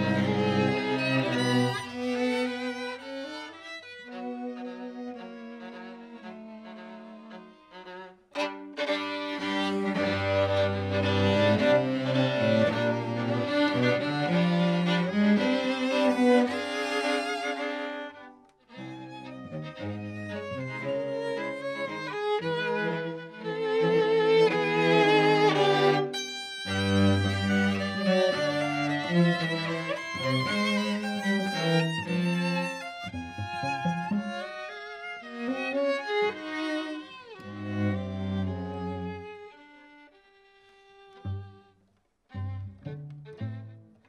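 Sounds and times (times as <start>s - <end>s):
string trio playing: 0.0s - 44.0s.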